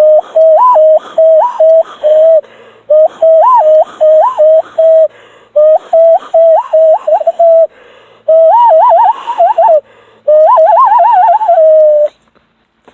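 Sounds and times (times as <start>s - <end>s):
hand whistle bird calls: 0.0s - 7.7s, 8.3s - 12.2s.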